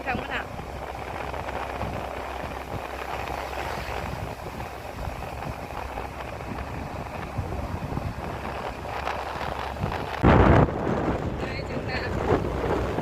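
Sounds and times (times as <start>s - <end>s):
low hum: 0.0s - 13.0s
moving vehicle running noise: 0.0s - 13.0s
wind on the microphone: 0.0s - 13.0s.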